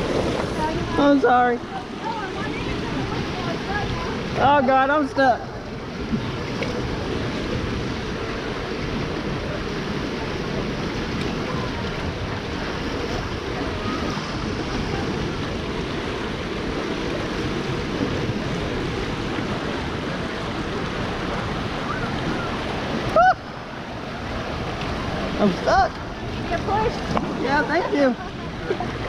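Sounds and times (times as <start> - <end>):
rushing churning water: 0.0 - 29.0.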